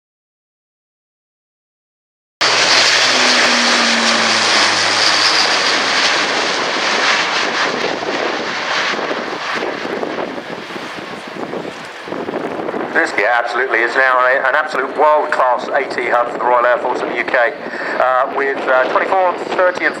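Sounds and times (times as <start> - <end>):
turboprop aircraft engines running: 2.4 - 20.0.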